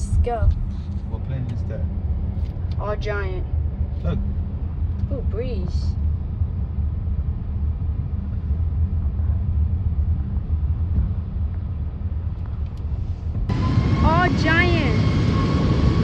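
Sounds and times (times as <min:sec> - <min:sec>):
car engine rumble: 0:00.0 - 0:16.0
road noise: 0:00.0 - 0:16.0.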